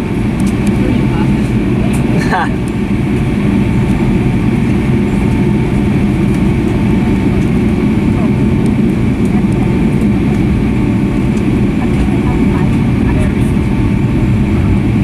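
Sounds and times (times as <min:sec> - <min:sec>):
jet engines rumbling: 0:00.0 - 0:15.0
thin steady whine: 0:00.0 - 0:15.0.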